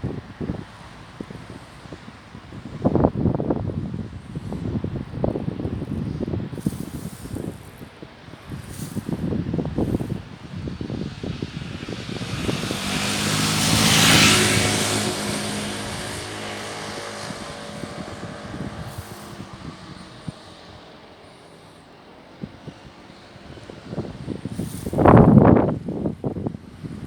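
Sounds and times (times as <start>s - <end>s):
motor vehicle passing by: 0.0s - 27.0s.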